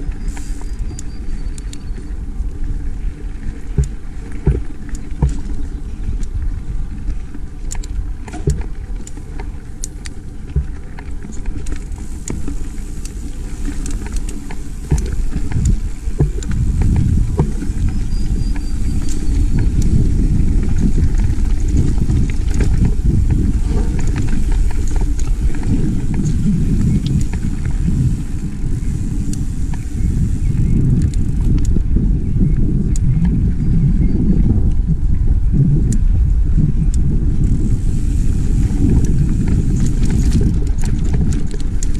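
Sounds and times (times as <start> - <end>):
bike clicks and rattles: 0.0 - 35.1, 35.8 - 41.9
tyres rumbling over dirt trail: 0.0 - 41.9
wind buffeting microphone: 0.0 - 41.9.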